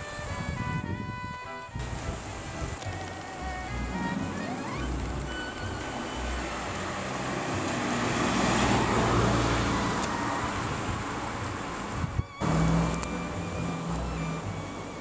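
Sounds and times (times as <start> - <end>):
vehicle passing on street: 1.7 - 15.0.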